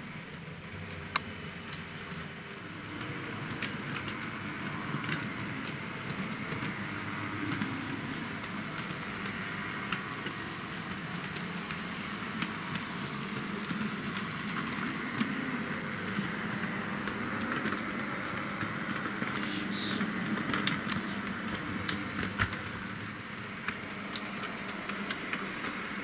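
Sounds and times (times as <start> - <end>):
model tram motor whirring: 0.9 - 26.0.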